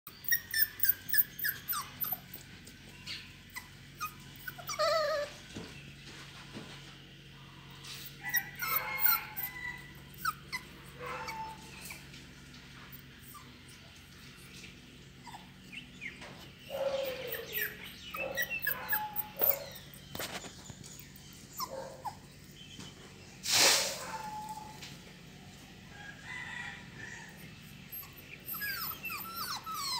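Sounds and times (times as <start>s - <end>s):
puppies whimpering and yelping: 0.1s - 5.7s, 7.7s - 22.9s, 24.0s - 24.9s, 26.5s - 29.9s.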